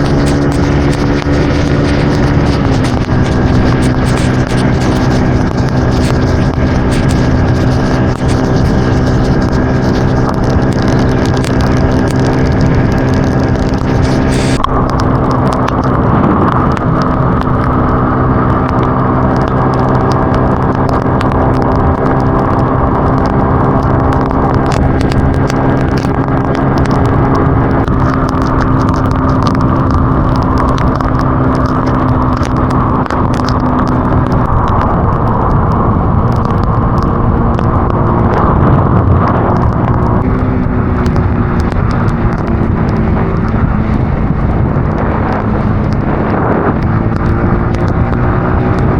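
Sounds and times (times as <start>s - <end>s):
light ticks: 0.0s - 48.9s
road noise: 0.0s - 48.9s
vehicle engine droning: 0.0s - 48.9s.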